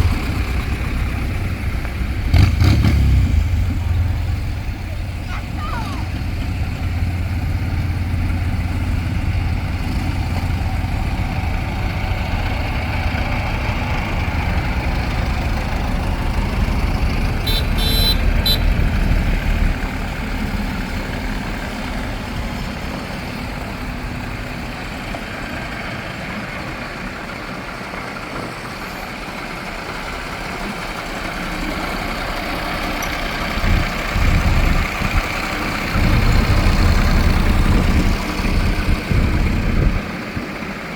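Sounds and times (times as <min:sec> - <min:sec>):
tractor diesel engines rumbling: 0:00.0 - 0:40.9.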